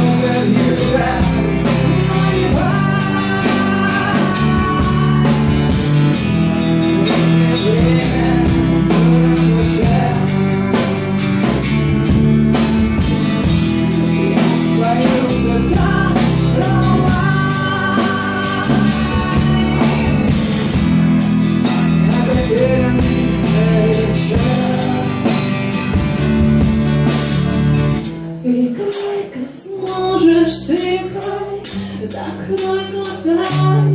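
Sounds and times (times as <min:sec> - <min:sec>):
bass: 0:00.0 - 0:33.9
drum kit: 0:00.0 - 0:33.9
guitar melody: 0:00.0 - 0:33.9.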